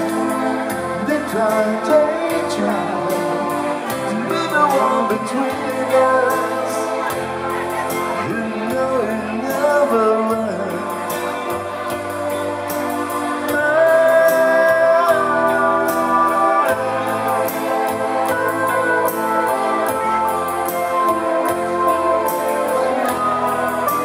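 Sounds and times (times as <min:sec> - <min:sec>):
electronic keyboard playing chords: 0:00.0 - 0:24.0
person singing: 0:00.0 - 0:24.0.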